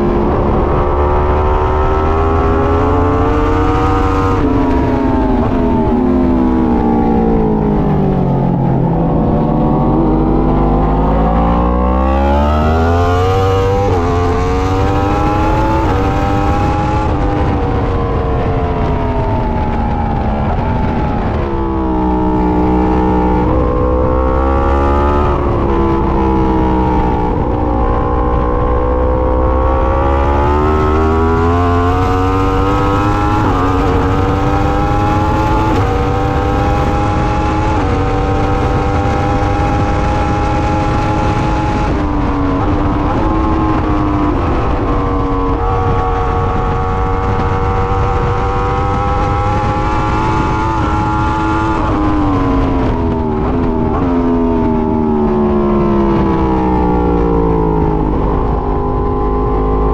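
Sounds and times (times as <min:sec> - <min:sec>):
sportbike engine revving: 0:00.0 - 0:59.9
wind rushing: 0:00.0 - 0:59.9.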